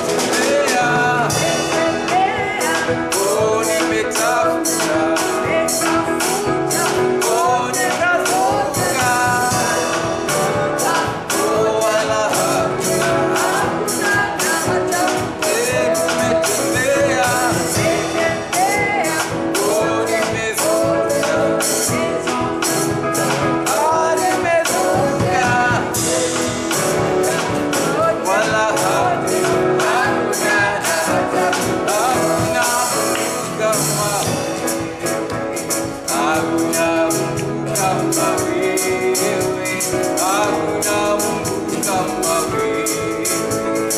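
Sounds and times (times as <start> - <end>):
percussion beat: 0.0 - 43.9
voices singing: 0.0 - 43.9
worship band music: 0.0 - 43.9.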